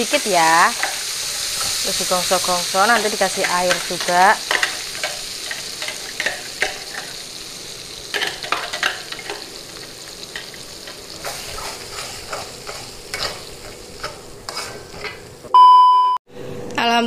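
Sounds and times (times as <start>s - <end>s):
paste sizzling in oil: 0.0s - 15.4s
spatula scraping wok: 0.0s - 15.5s.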